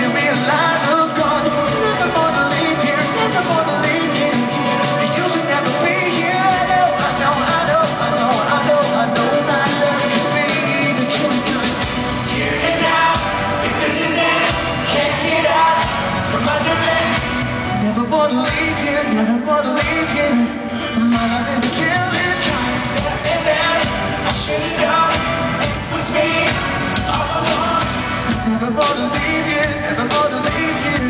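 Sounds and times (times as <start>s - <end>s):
live rock band playing: 0.0s - 31.0s
man singing lead vocals: 0.0s - 31.0s.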